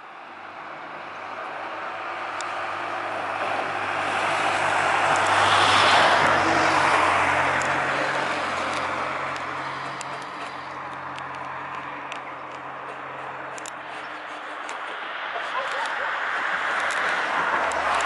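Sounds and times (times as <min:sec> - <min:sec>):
car passing: 0:00.0 - 0:18.0
low traffic hum: 0:00.0 - 0:18.0.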